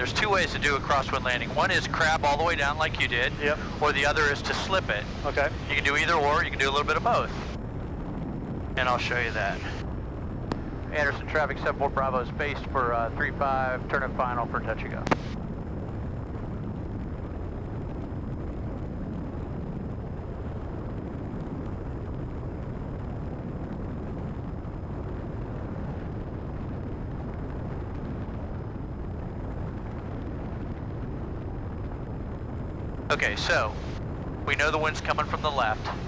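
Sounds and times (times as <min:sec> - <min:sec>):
rush of airflow: 0:00.0 - 0:12.4, 0:14.9 - 0:36.0
aircraft engine and propeller drone: 0:00.0 - 0:36.0.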